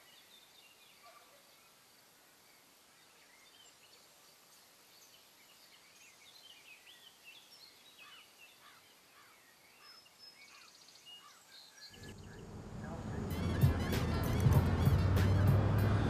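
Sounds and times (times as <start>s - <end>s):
faint birdsong chirps and trills: 0.0s - 15.9s.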